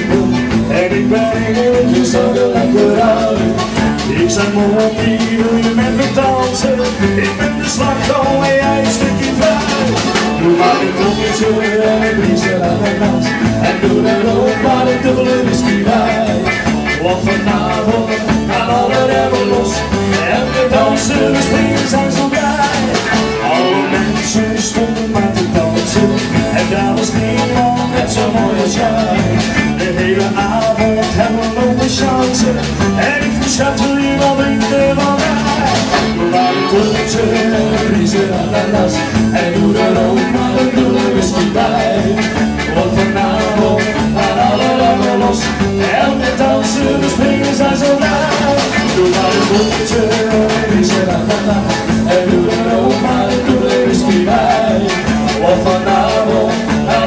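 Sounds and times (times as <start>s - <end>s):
drums keeping steady beat: 0.0s - 57.0s
electric guitar: 0.0s - 57.0s
keyboard: 0.0s - 57.0s.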